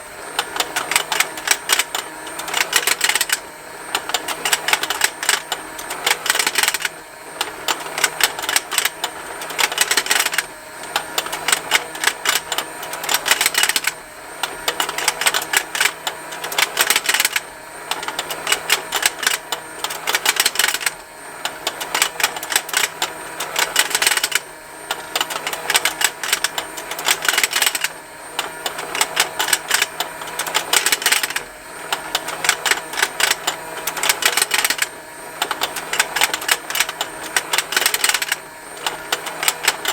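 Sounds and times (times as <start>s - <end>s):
faint motor hum: 0.0s - 39.9s
plastic toy ticking: 0.5s - 3.4s, 4.0s - 10.5s, 11.2s - 21.0s, 21.6s - 31.4s, 32.0s - 39.9s.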